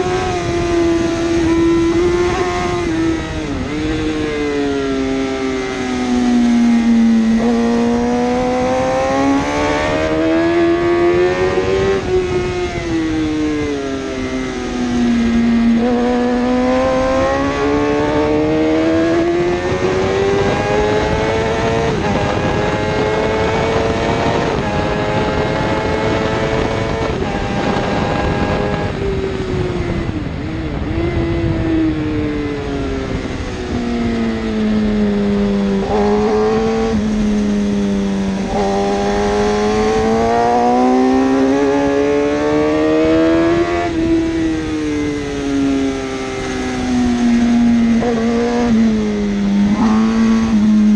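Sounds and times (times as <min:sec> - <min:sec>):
motorcycle engine at high revs: 0:00.0 - 0:50.9.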